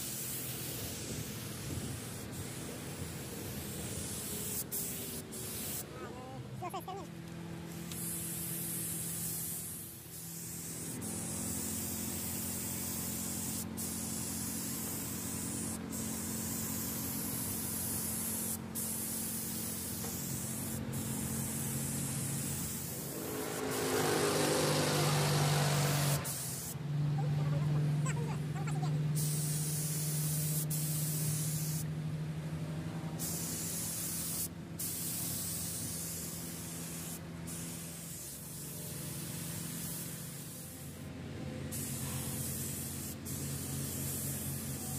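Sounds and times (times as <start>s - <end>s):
spray gun hissing: 0.0s - 5.9s, 7.7s - 26.8s, 28.6s - 31.9s, 33.2s - 41.1s, 41.7s - 44.9s.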